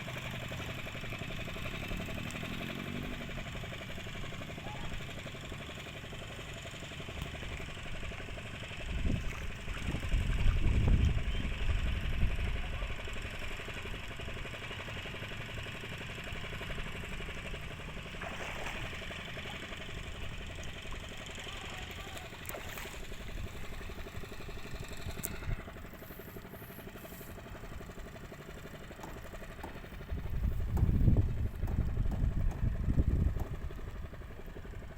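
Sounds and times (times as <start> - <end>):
boat engine chugging: 0.0 - 34.9.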